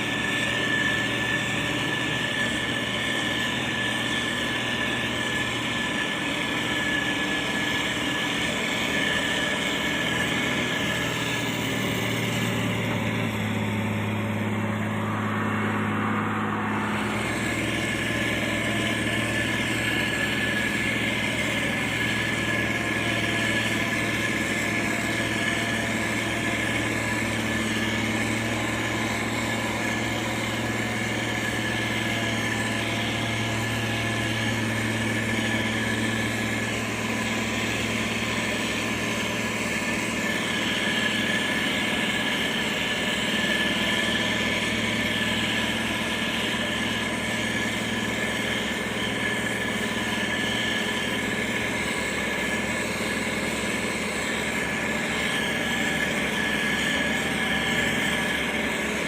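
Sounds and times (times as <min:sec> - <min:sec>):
diesel engine of heavy machinery: 0:00.0 - 0:59.0.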